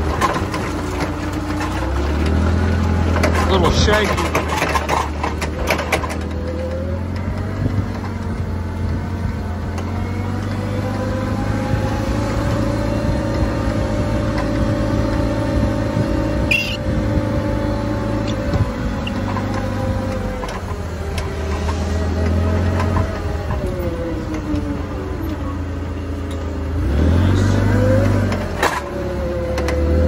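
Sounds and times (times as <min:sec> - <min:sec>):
forklift engine running: 0:00.0 - 0:30.0.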